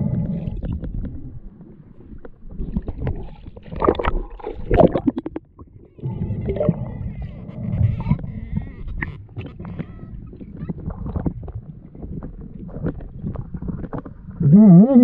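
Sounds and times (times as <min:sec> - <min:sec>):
muffled underwater rushing: 0:00.0 - 0:15.0
water splashing and gurgling: 0:00.0 - 0:15.0.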